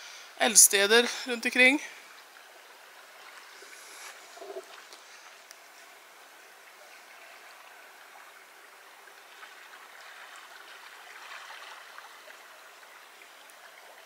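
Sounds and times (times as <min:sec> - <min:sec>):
river water rushing: 0:00.4 - 0:14.0.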